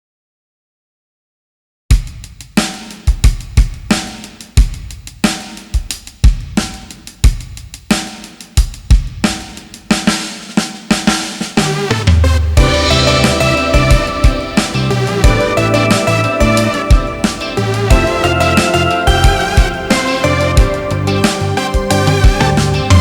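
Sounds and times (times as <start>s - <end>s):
music with drum kit beat: 1.9s - 23.0s.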